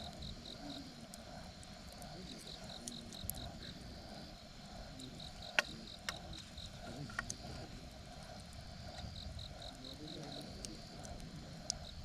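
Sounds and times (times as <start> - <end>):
campfire crackling and popping: 0.0 - 12.0
crickets chirping: 0.0 - 12.0.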